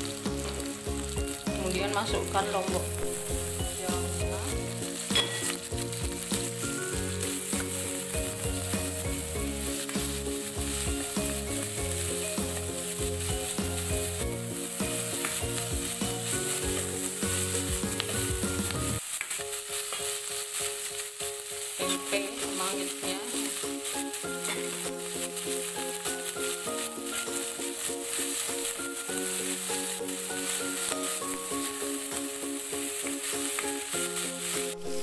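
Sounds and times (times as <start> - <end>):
vegetables sizzling in hot oil: 0.0 - 35.0
metal ladle scraping wok: 2.5 - 17.7, 21.8 - 35.0.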